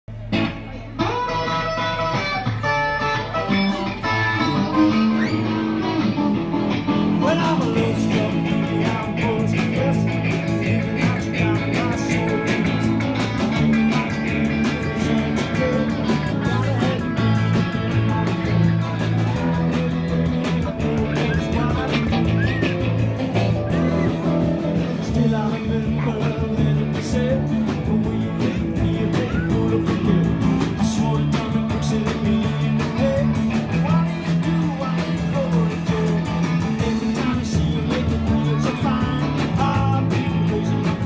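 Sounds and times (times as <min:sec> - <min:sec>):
bass guitar: 0:00.0 - 0:41.0
electric guitars: 0:00.1 - 0:41.0
drums and cymbals: 0:04.0 - 0:41.0.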